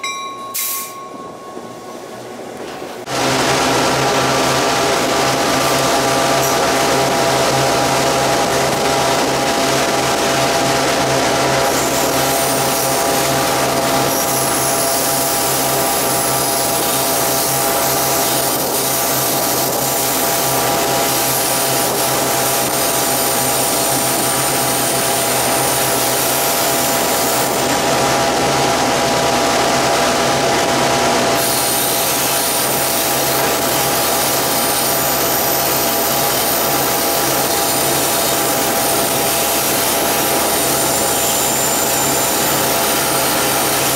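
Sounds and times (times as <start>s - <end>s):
locomotive engine drone: 0.0s - 43.9s.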